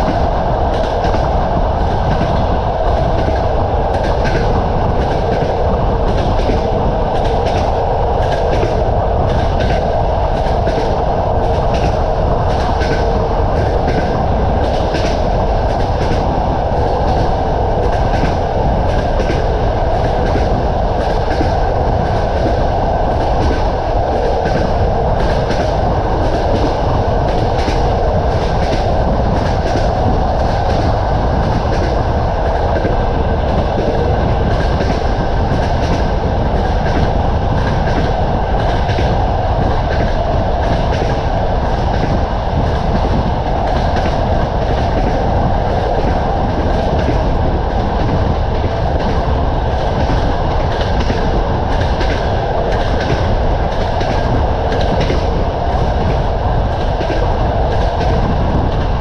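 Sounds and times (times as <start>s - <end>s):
train rumble and air rush: 0.0s - 59.0s
train wheels clickety-clack: 0.0s - 59.0s.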